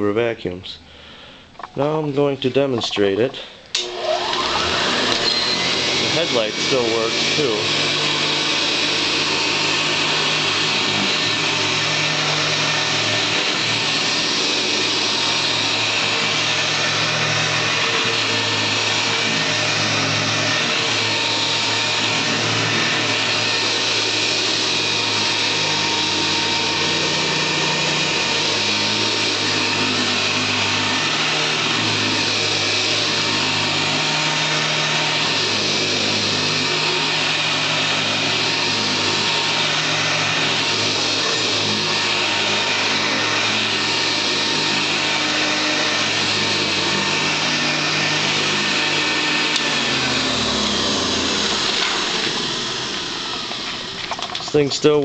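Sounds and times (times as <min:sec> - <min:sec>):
vacuum cleaner running: 0:02.8 - 0:55.0.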